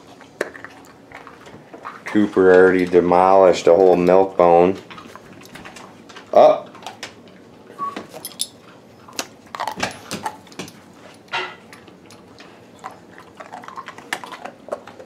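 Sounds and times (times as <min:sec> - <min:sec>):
dogs crunching hard biscuits: 0:00.0 - 0:07.5, 0:08.1 - 0:15.0.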